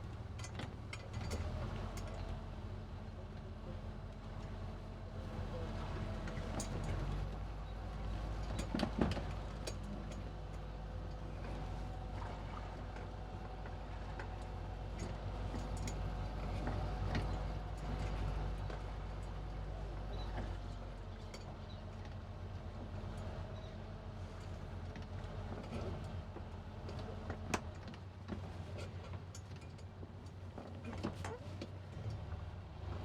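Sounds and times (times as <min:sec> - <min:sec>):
boat engine running at low speed: 0:00.0 - 0:33.0.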